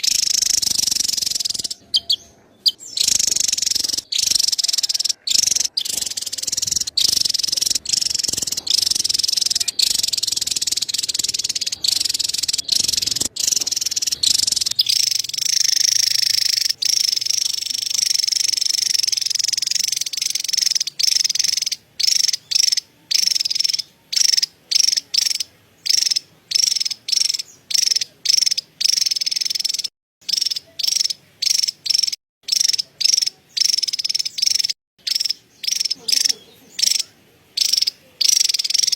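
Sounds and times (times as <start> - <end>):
bird chattering trill: 0.0 - 38.9.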